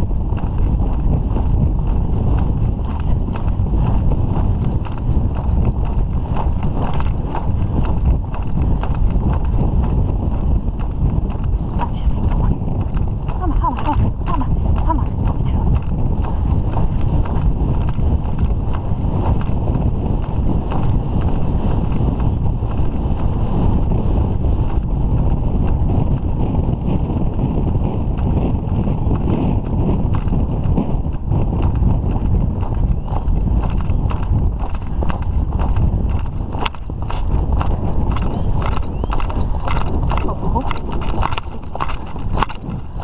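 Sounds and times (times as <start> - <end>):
horse hoofbeats on gravel: 0.0 - 43.0
wind rumbling on microphone: 0.0 - 43.0.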